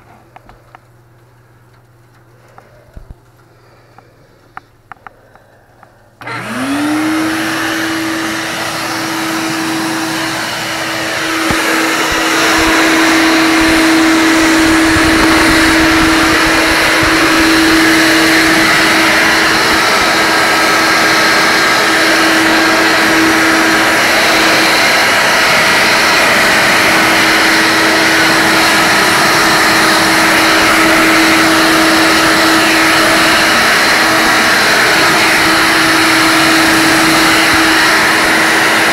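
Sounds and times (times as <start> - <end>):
vacuum cleaner motor whining: 2.1 - 38.9.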